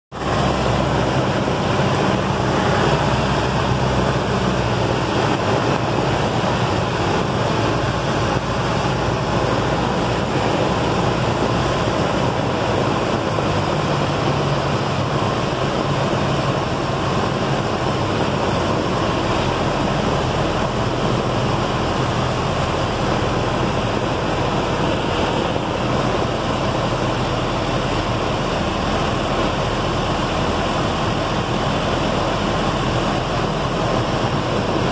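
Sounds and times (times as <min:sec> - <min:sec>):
aircraft engine idling: 0:00.1 - 0:34.9
airflow rushing over cockpit: 0:00.1 - 0:34.9.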